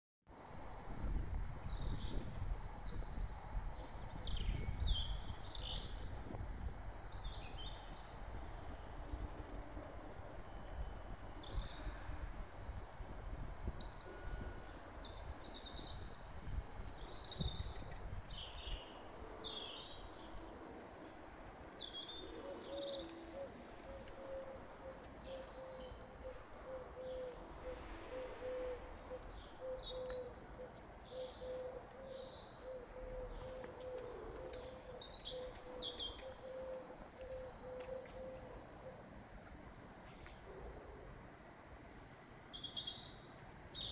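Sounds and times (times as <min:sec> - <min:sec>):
faint steady hum: 0:00.3 - 0:43.9
songbirds singing: 0:01.3 - 0:40.3, 0:42.0 - 0:43.9.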